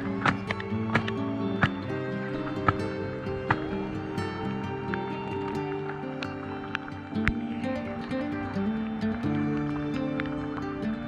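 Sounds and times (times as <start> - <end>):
music melody of held notes: 0.0 - 11.0.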